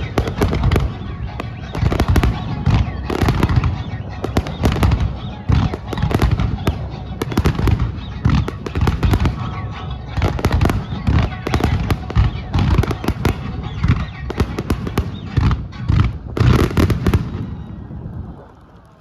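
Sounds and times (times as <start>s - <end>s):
continuous low rumble: 0.0s - 19.0s
fireworks bursting: 0.0s - 19.0s
fireworks crackle: 0.0s - 19.0s.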